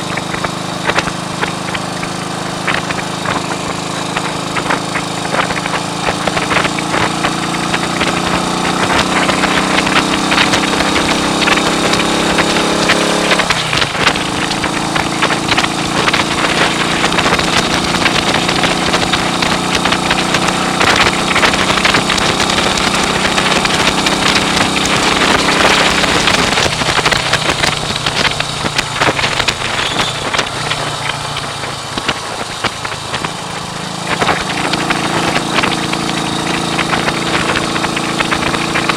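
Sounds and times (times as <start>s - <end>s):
motorcycle engine accelerating: 0.0s - 38.9s
wind buffeting on microphone: 0.0s - 38.9s.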